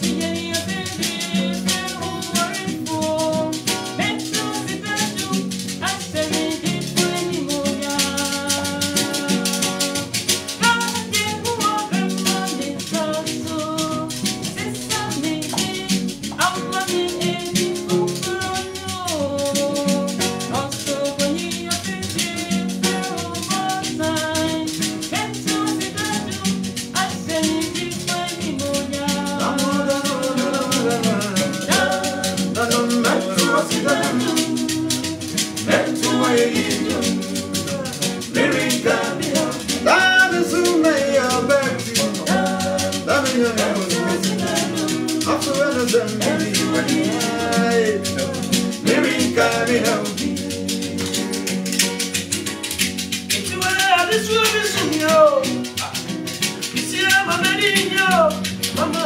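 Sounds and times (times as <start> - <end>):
acoustic guitar: 0.0 - 59.0
hand shaker rhythm: 0.0 - 59.0
voices singing: 0.0 - 59.0.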